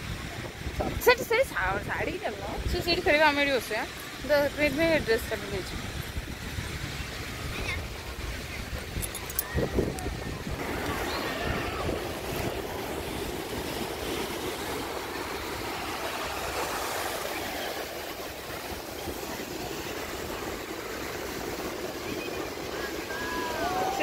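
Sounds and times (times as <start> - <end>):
sea surf on beach: 0.0 - 24.0
wind buffeting microphone: 0.0 - 24.0.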